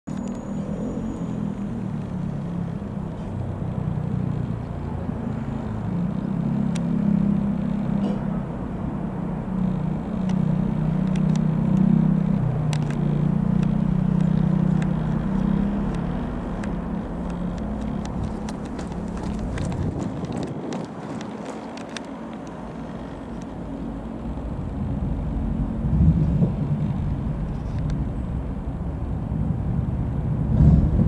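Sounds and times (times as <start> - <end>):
light aircraft engine droning: 0.1 - 31.0.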